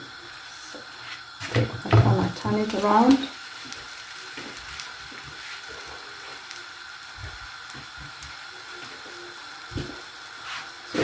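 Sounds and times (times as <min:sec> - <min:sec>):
frying pan sizzle with crackles: 0:00.0 - 0:11.0.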